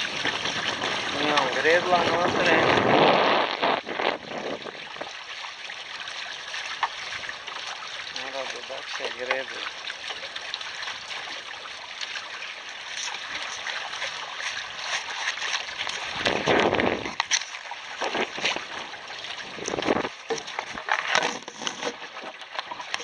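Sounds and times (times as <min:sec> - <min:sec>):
sea water splashing against hulls: 0:00.0 - 0:23.0.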